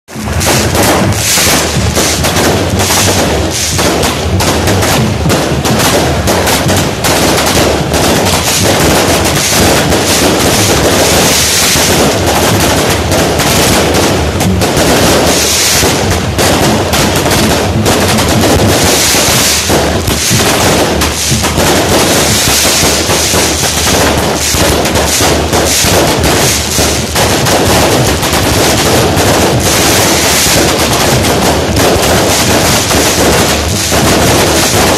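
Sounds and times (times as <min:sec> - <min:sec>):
firework cake volley: 0:00.0 - 0:34.9.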